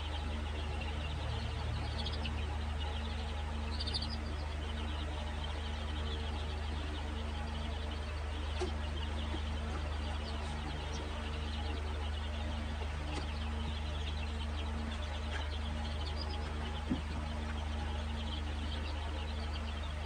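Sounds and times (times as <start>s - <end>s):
baby chicks peeping: 0.0s - 20.0s
steady low hum: 0.0s - 20.0s.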